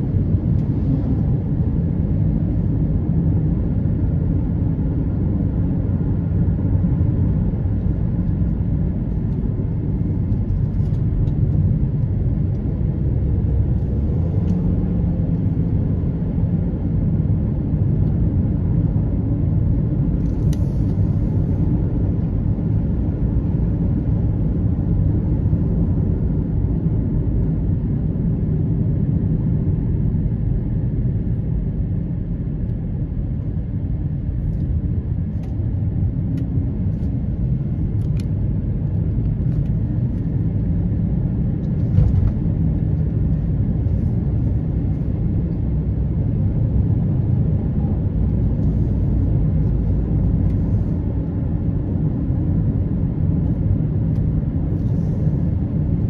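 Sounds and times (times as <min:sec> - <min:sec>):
vehicle engine and tyre rumble: 0:00.0 - 0:56.0.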